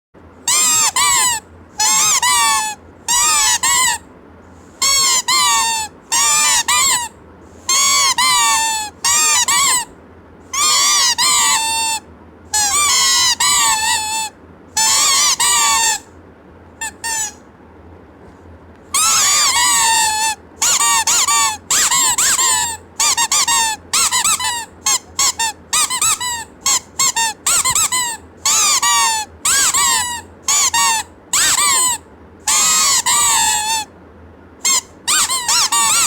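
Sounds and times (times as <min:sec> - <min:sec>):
squeaky toy squeaking: 0:00.5 - 0:04.0, 0:04.8 - 0:09.9, 0:10.5 - 0:16.1, 0:16.8 - 0:17.4, 0:18.9 - 0:33.9, 0:34.6 - 0:36.0.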